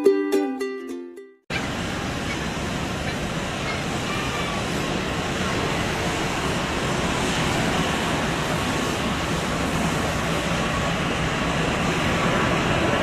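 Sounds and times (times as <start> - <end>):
jet engines at takeoff thrust: 1.5 - 13.0.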